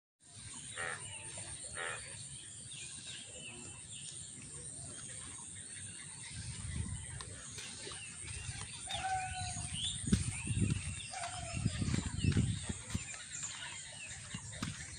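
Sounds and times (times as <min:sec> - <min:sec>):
birds calling and chirping: 0:00.2 - 0:14.9.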